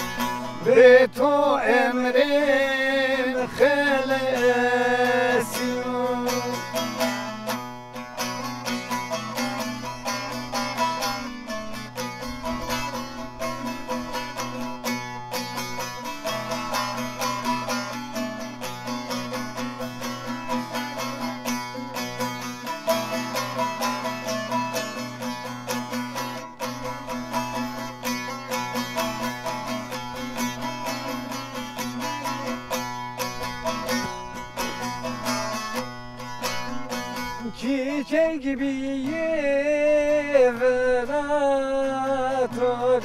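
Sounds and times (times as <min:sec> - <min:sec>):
long-necked lute strumming: 0:00.0 - 0:43.0.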